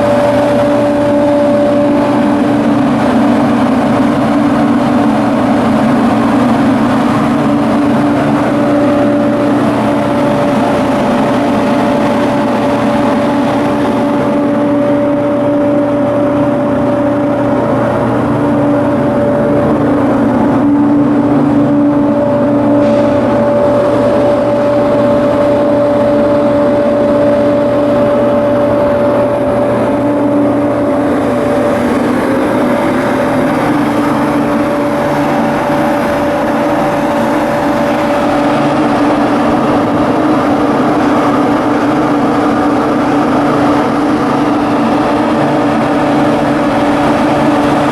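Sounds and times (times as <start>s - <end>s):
ship diesel engine droning: 0.0s - 47.9s.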